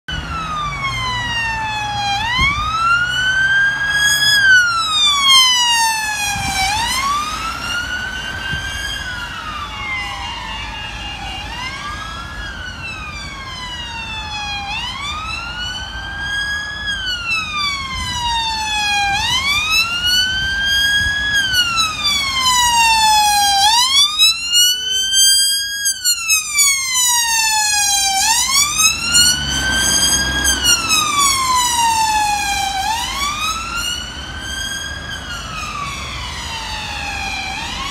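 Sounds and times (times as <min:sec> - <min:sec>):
police siren wailing: 0:00.0 - 0:37.9
low traffic noise: 0:00.1 - 0:37.9.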